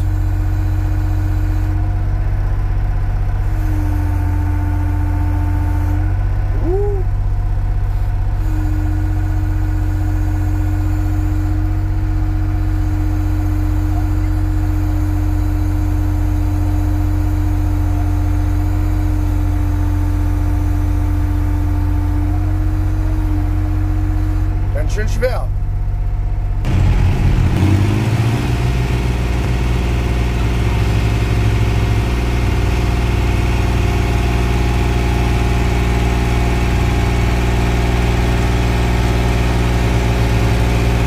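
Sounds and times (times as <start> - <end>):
excavator diesel engine running: 0.0 - 41.0
steady whine: 7.8 - 41.0.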